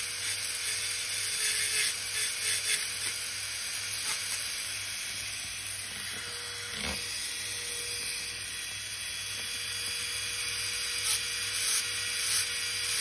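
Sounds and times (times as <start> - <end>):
dental drill high hiss: 0.0 - 13.0.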